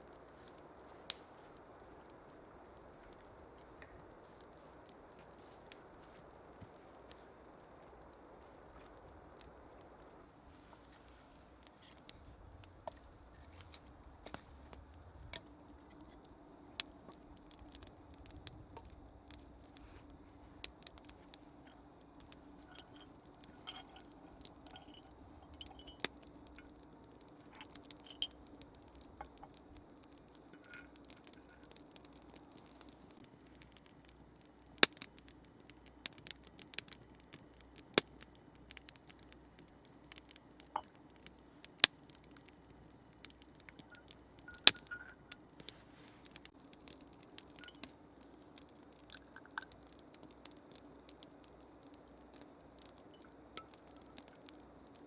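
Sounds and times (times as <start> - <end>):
campfire crackling: 0.0 - 55.0
sharp pops of fire: 0.0 - 55.0.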